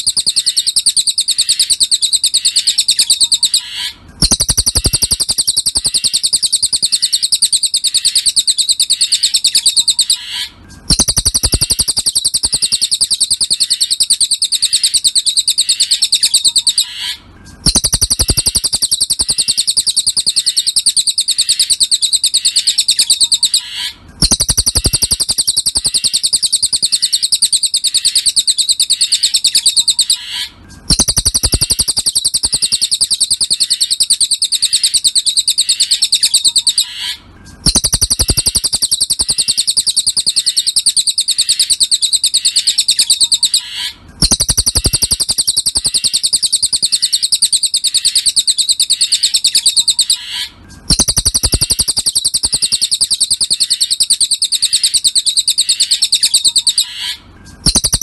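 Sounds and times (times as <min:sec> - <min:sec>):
high-pitched bird trill: 0:00.0 - 0:58.0.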